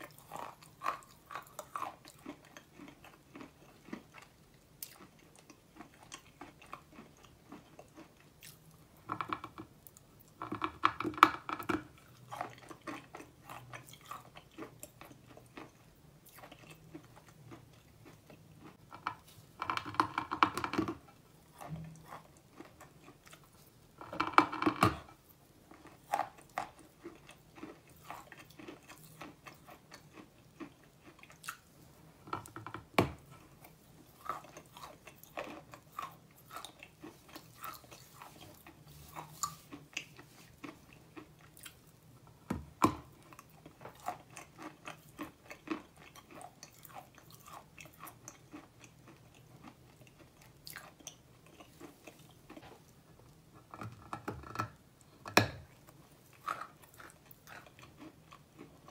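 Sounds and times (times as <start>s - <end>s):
chewing chalk: 0.0s - 42.0s, 42.9s - 54.8s, 55.7s - 58.9s
crunching between teeth: 0.0s - 58.9s.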